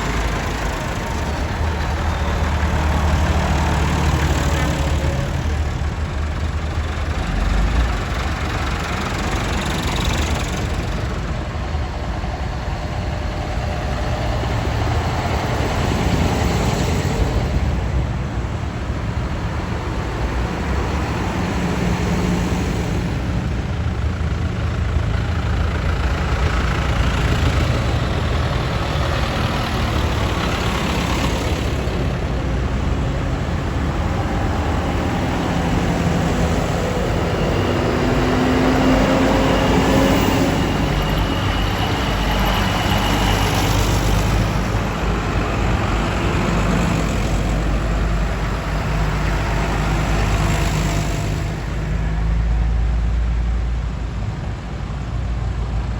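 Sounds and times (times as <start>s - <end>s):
tractor engines driving past: 0.0s - 55.9s.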